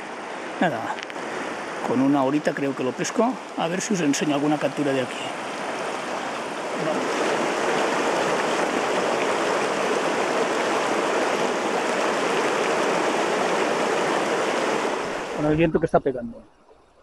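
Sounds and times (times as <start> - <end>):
river rushing over rocks: 0.0 - 15.6.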